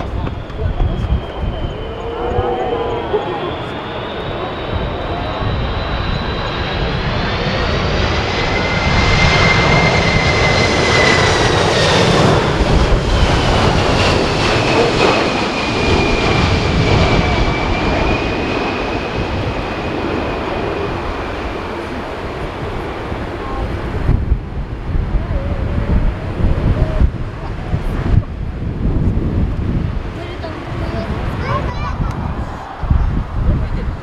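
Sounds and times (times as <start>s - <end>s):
jet airliner engines passing: 0.0s - 34.0s
wind buffeting microphone: 0.0s - 34.0s.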